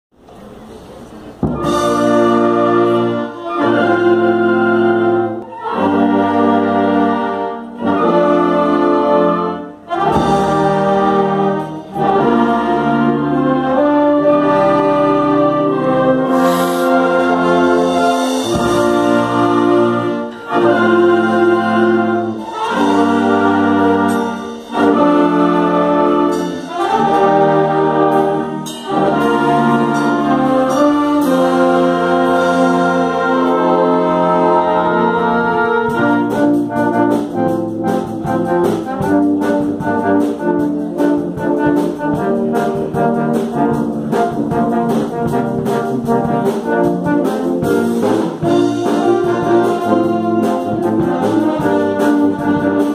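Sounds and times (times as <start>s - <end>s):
concert band playing: 0.2s - 52.9s.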